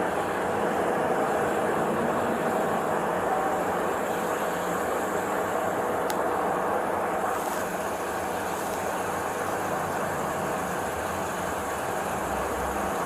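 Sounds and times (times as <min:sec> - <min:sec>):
steady vehicle drone: 0:00.0 - 0:13.0.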